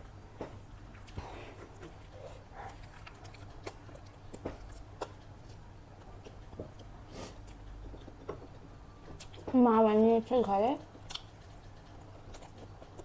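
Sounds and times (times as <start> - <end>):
person chewing food: 0.0 - 9.5, 10.8 - 13.0
steady low hum: 0.0 - 13.0.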